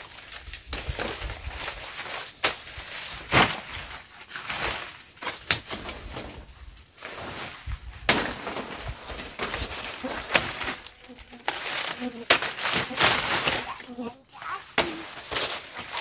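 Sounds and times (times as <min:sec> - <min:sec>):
leaves and stems rustling: 0:00.0 - 0:16.0.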